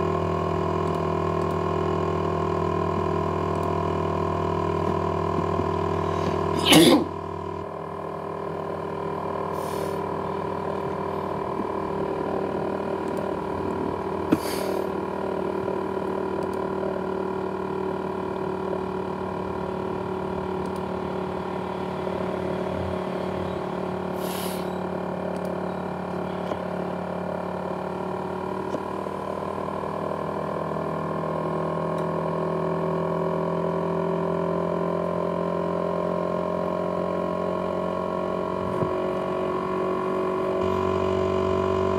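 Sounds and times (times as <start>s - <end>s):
laptop fan whining: 0.0s - 41.9s.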